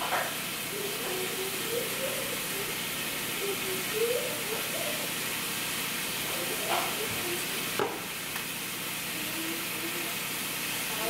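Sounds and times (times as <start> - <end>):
patties sizzling in frying pan: 0.0 - 11.0.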